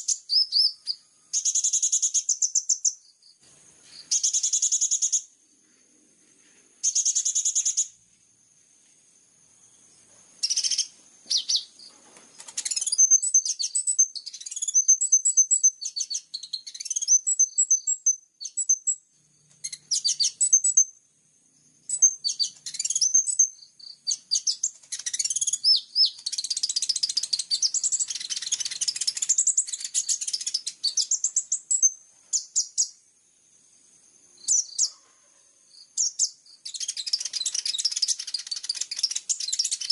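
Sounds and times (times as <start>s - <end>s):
lark song: 0.0s - 5.6s, 10.4s - 33.5s, 34.2s - 35.2s, 35.8s - 39.9s
high cricket-like tone: 0.0s - 39.9s.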